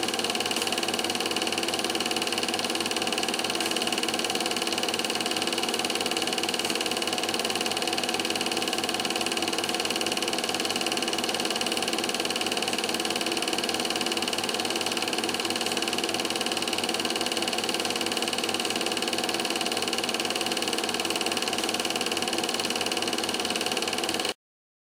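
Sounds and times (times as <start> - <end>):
film projector whirring: 0.0 - 24.4.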